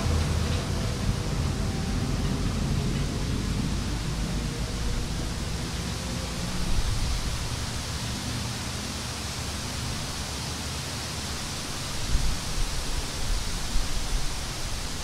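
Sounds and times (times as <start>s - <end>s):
wind blowing across field: 0.0s - 15.0s.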